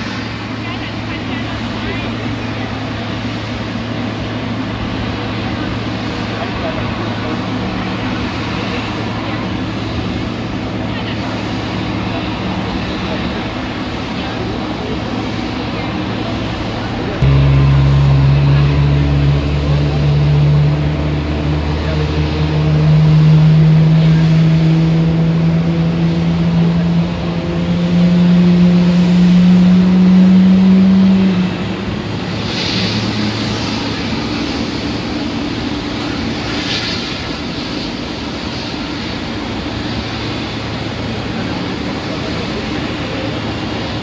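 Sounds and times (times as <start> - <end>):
low steady rumble: 0.0 - 44.0
vehicle engine drone: 0.0 - 44.0.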